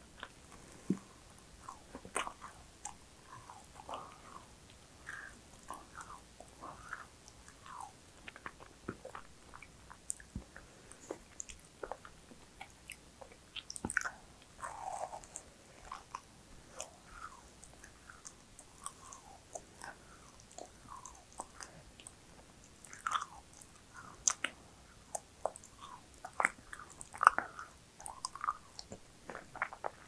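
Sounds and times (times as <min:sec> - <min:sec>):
person chewing crunchy food: 0:00.1 - 0:22.2, 0:22.8 - 0:30.0.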